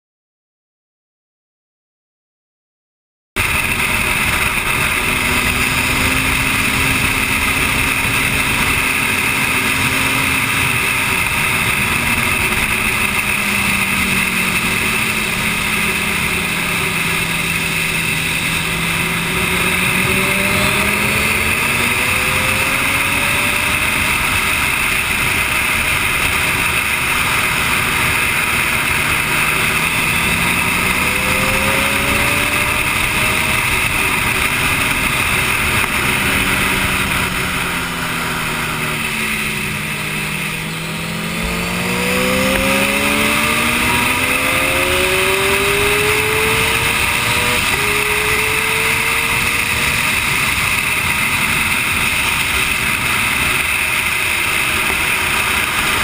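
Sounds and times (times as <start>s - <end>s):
motorcycle engine: 3.4s - 56.0s
wind noise: 3.4s - 56.0s.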